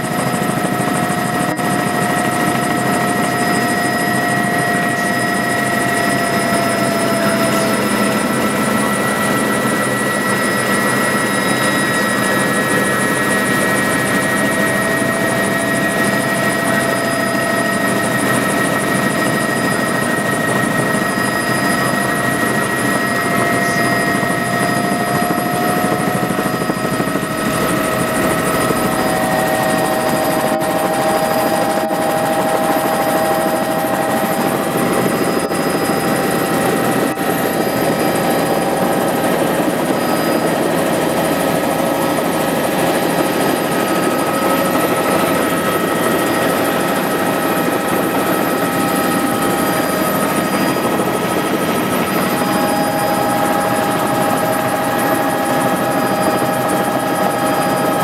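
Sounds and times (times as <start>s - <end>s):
helicopter drone with high whine: 0.0s - 58.0s.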